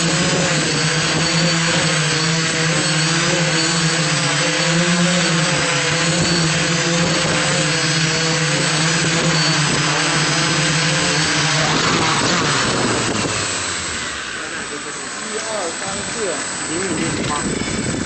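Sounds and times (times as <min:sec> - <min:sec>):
drone motors and propellers humming: 0:00.0 - 0:18.0.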